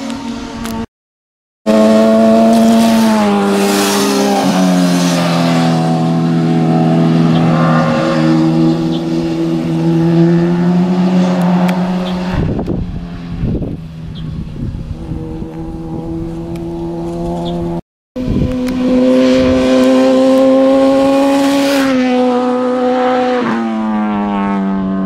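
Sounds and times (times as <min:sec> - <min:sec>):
motorcycle engine revving: 0:01.7 - 0:25.0.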